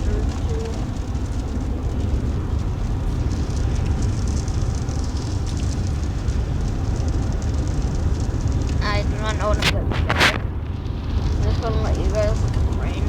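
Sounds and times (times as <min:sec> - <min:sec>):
heavy rain on truck cab: 0:00.0 - 0:13.0
low road rumble: 0:00.0 - 0:13.0.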